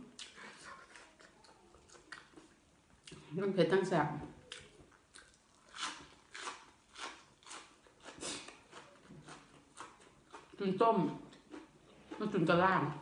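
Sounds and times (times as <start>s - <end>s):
crunchy chewing of vegetable: 0.0s - 3.2s, 4.4s - 12.3s.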